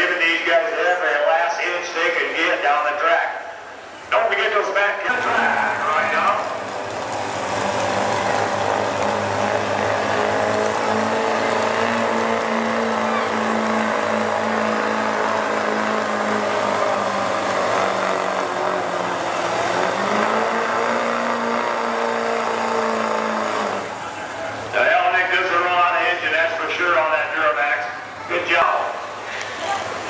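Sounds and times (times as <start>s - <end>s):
diesel engine running under full load: 5.0s - 30.0s.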